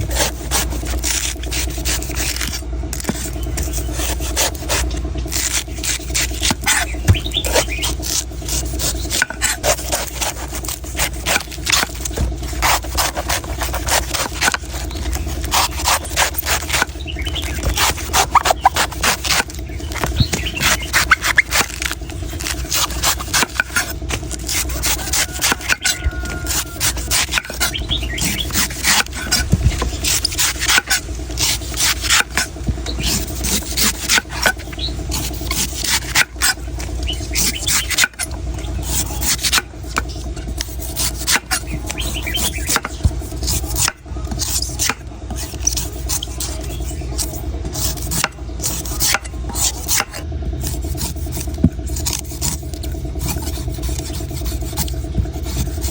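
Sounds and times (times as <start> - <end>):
knife scraping coconut husk: 0.0 - 55.9.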